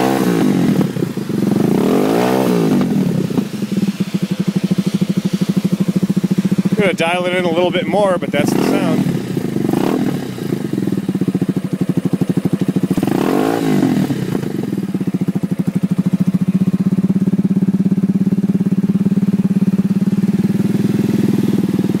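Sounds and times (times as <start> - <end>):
motorcycle engine idling: 0.0 - 22.0
motorcycle engine revving: 0.0 - 22.0.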